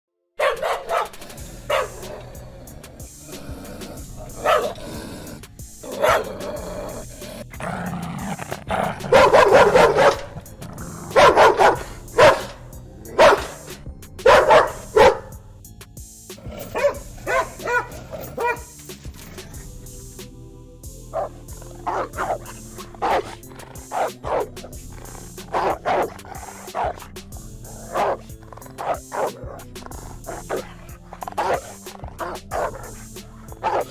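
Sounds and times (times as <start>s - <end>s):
dogs fighting and barking: 0.4s - 15.4s, 16.4s - 19.8s, 21.1s - 33.9s.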